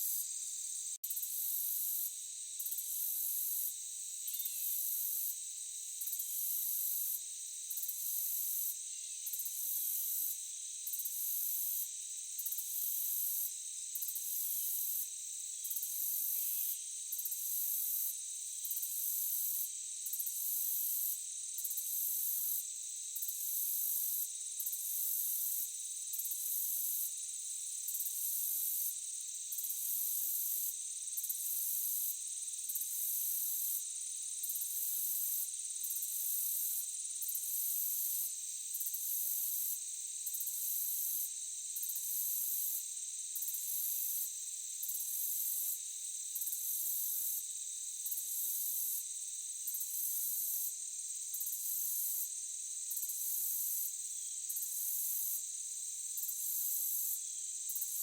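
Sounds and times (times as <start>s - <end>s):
insects droning: 0.0s - 58.0s
shrill insect layer: 0.0s - 58.0s.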